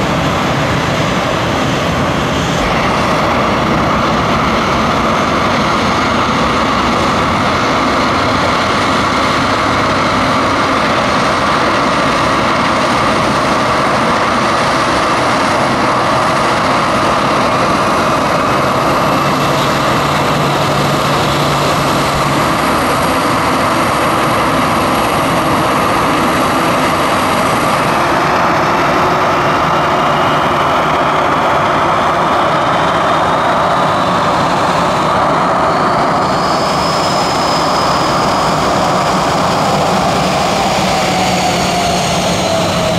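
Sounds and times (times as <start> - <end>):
jet engines roaring and whining: 0.0 - 42.9.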